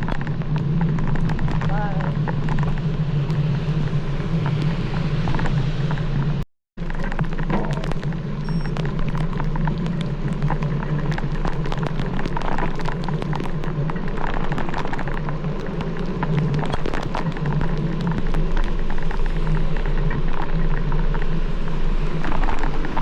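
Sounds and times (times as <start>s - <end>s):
raindrops tapping on camera: 0.0s - 23.0s.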